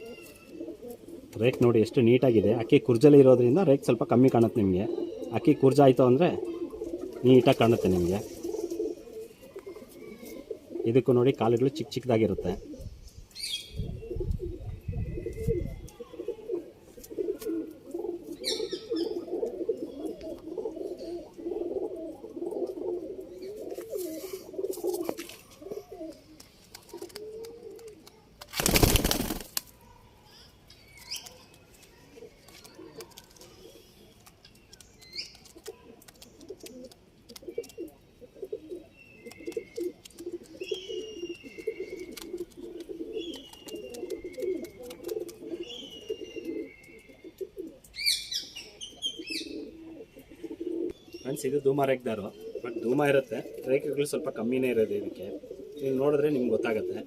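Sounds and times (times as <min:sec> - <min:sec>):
pigeons cooing: 0:00.0 - 0:29.5, 0:31.1 - 0:34.3, 0:35.0 - 0:57.0.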